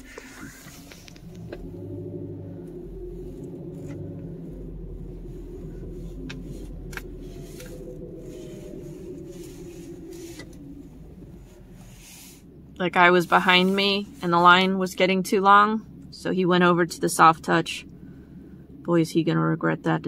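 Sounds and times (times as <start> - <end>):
car engine low hum: 0.0 - 20.0.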